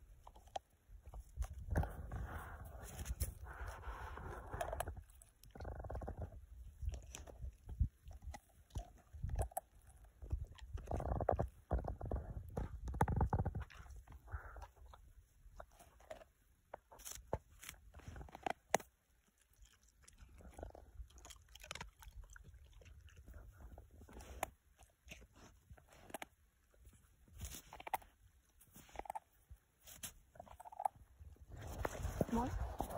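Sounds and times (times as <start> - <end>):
dog chewing with crunches: 0.0 - 32.9.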